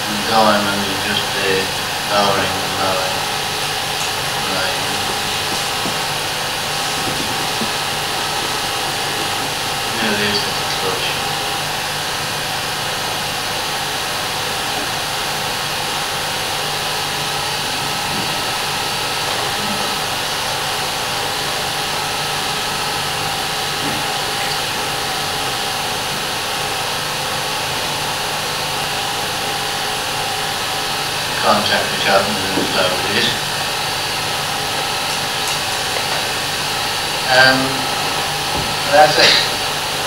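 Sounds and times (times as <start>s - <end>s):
projector motor and fan whirring: 0.0s - 40.0s.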